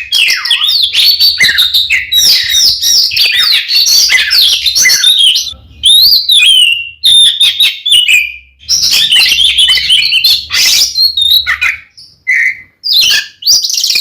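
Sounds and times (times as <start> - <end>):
magpie-robin singing: 0.0 - 14.0.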